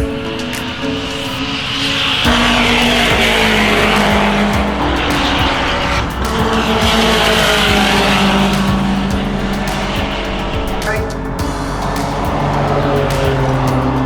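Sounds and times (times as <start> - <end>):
background music: 0.0 - 14.0
car engine running: 2.2 - 14.0.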